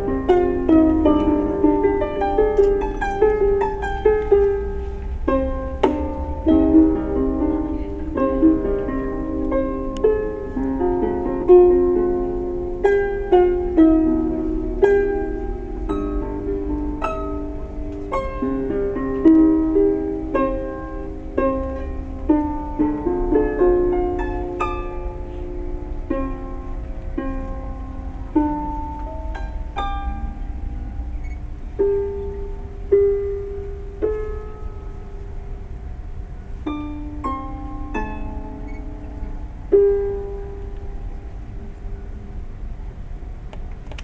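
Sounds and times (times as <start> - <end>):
plucked string instrument melody: 0.0 - 44.0.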